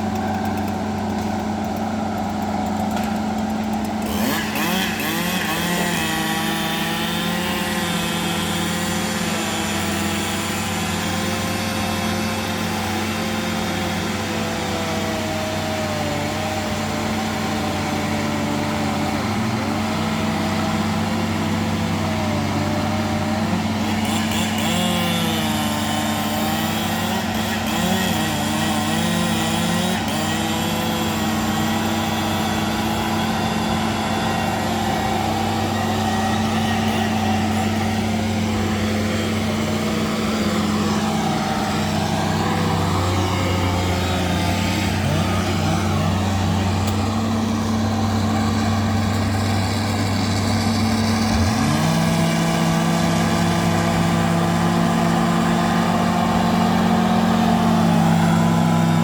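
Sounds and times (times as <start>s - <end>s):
bulldozer diesel engine revving: 0.0s - 59.0s.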